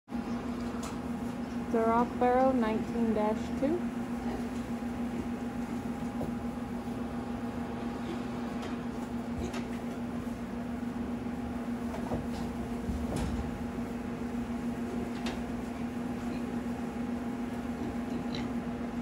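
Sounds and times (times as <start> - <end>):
mechanical hum: 0.1 - 19.0.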